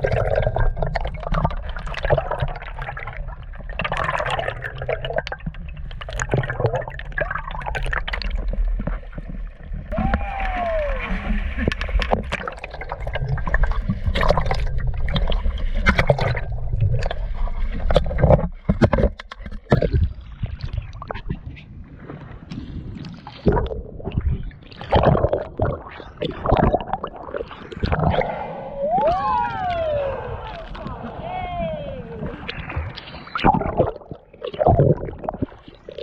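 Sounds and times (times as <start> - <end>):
water splashing against boat: 0.0 - 36.0.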